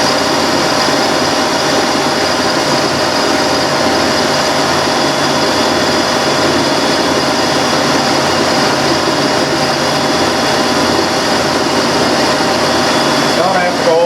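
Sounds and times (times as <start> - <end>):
high machine whine: 0.0 - 14.0
milling machine cutting metal: 0.0 - 14.0.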